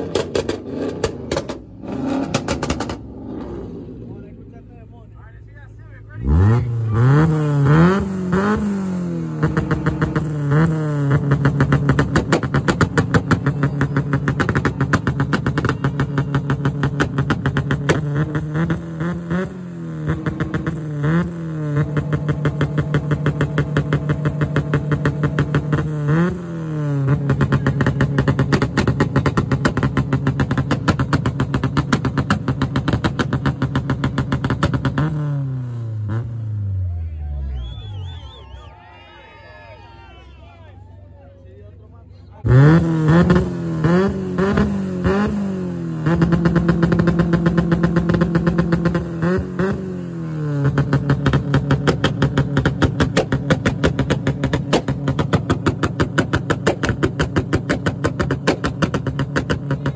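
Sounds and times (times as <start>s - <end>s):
car engine at high revs: 0.0s - 4.7s, 5.8s - 36.9s, 42.4s - 59.9s
exhaust crackling and popping: 0.0s - 36.5s, 42.4s - 49.9s, 50.5s - 59.9s.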